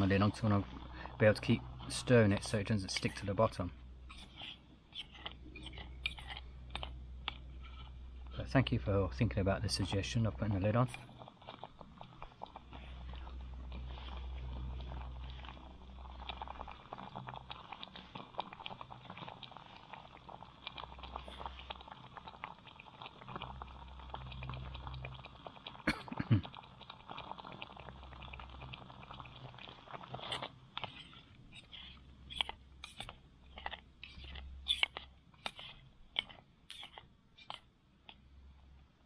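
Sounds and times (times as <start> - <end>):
sauce bubbling and popping: 0.0 - 38.9.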